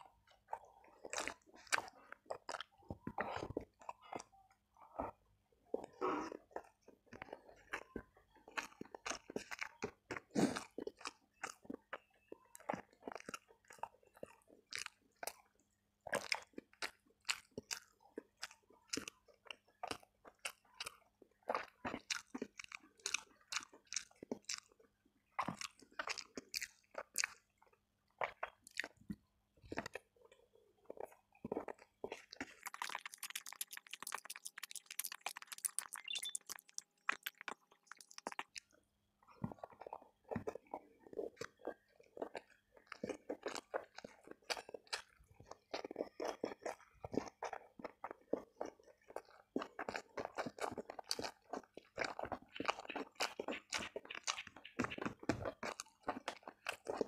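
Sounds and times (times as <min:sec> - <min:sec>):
close chewing with mouth clicks: 0:00.0 - 0:57.0.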